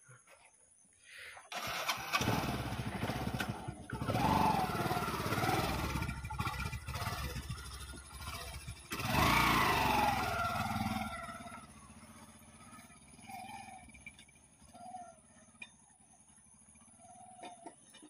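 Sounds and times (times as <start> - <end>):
motorcycle engine revving: 1.5 - 18.0.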